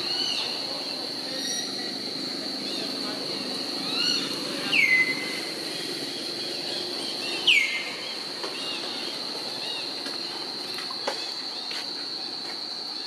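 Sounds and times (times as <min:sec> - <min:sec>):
high-pitched insect drone: 0:00.0 - 0:13.0
soft insect chirps: 0:00.0 - 0:13.0.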